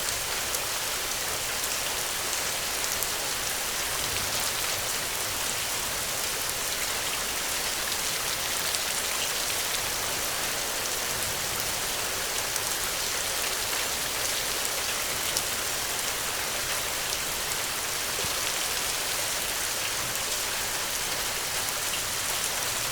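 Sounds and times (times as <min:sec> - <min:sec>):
rain on a thatched roof: 0:00.0 - 0:22.9.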